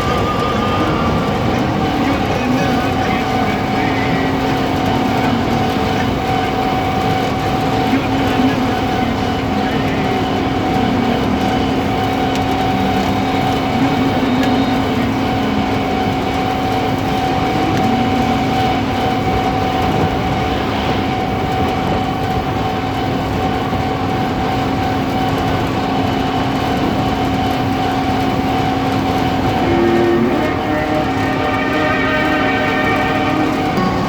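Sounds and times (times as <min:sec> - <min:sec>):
combine harvester drone: 0:00.0 - 0:34.0.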